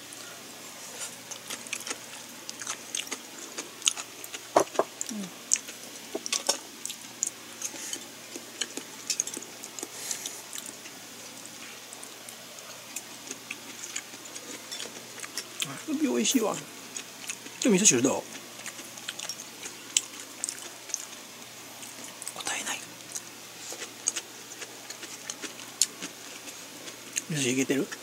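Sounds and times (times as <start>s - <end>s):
person chewing food: 0.9s - 15.7s, 16.9s - 17.6s, 18.3s - 22.4s, 23.0s - 27.3s.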